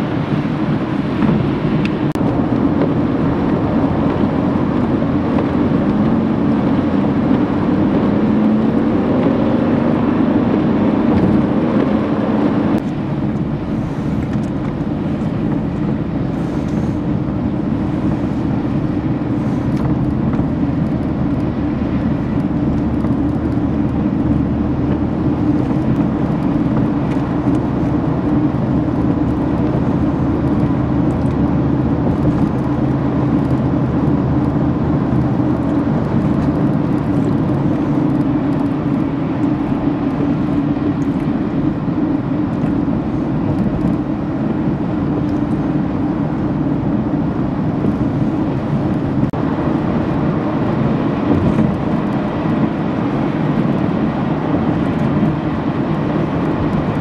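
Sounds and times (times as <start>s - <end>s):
car road noise on wet road: 0.0s - 57.0s.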